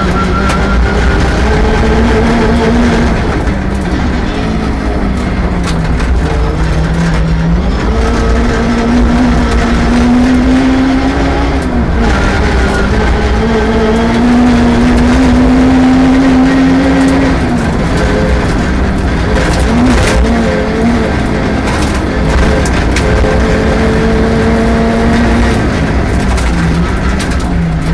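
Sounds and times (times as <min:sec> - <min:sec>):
rally car engine accelerating: 0:00.0 - 0:27.9.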